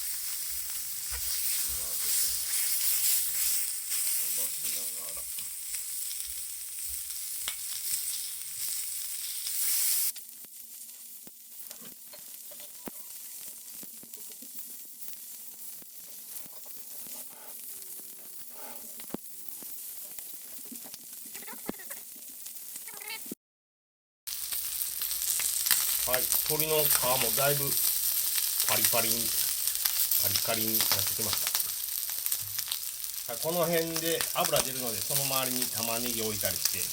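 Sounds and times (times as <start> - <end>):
chicken skin sizzling on griddle: 0.0 - 23.2, 24.3 - 36.9.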